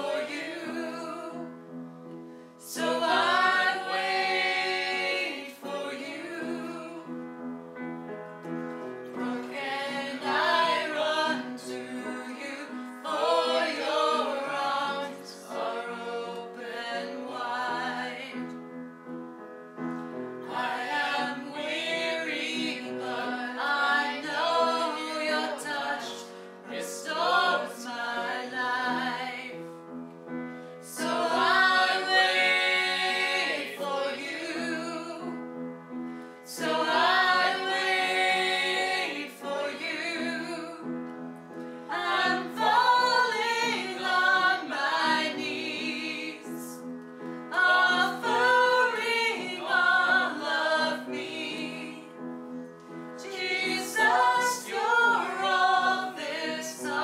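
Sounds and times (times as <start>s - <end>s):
choir singing a hymn: 0.0s - 1.7s, 2.6s - 7.4s, 9.0s - 18.6s, 20.4s - 29.8s, 30.5s - 41.0s, 41.8s - 57.0s.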